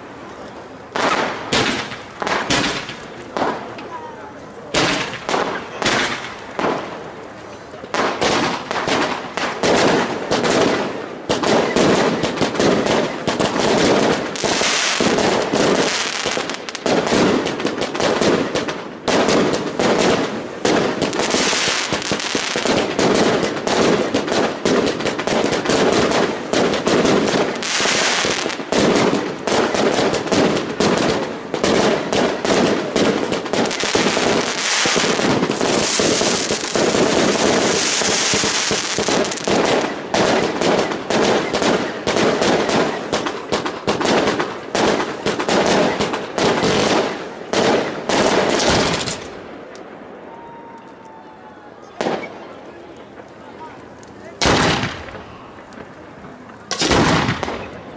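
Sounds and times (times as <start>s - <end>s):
fireworks bangs and crackling: 0.0s - 57.9s.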